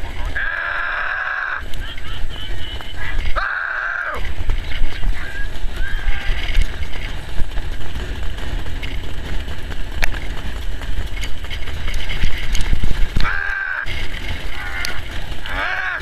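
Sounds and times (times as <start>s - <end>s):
trotting horse and sulky rumble: 0.0s - 16.0s
wind buffeting microphone: 0.0s - 16.0s.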